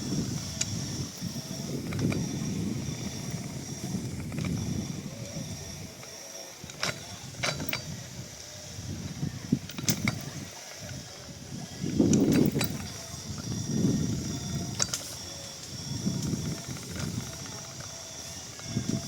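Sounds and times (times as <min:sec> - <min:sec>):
ride rumbling and creaking: 0:00.0 - 0:19.0.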